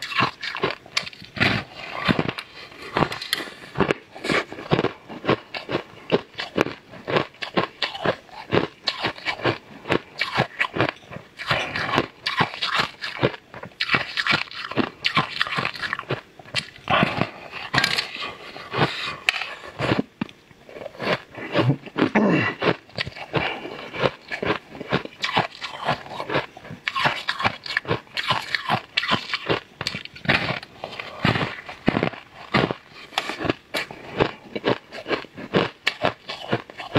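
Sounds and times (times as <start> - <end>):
crunching hard candy: 0.0 - 36.9.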